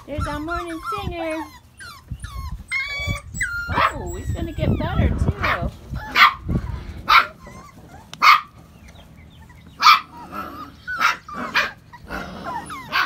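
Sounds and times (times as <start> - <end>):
puppy yapping: 0.0 - 8.7, 9.4 - 13.0.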